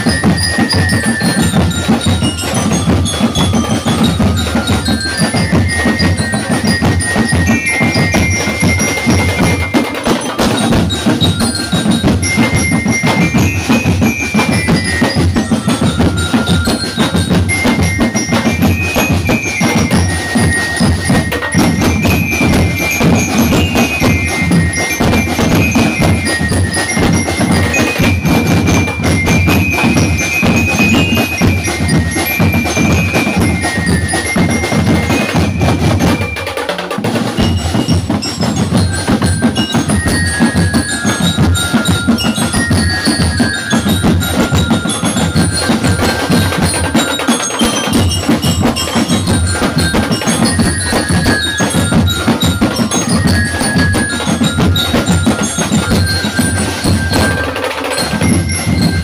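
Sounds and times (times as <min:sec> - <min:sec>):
bell lyres ringing a melody: 0:00.0 - 0:59.0
snare and bass drum beat: 0:00.0 - 0:59.0.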